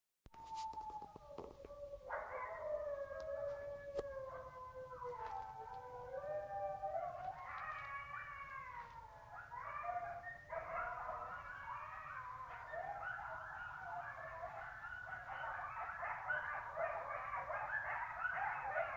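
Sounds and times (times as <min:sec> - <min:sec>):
wolves howling: 0:00.4 - 0:18.9.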